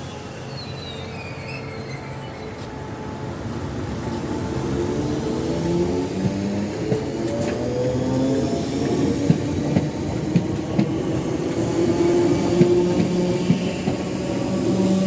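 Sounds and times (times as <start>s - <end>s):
train mechanical drone: 0.0s - 15.0s.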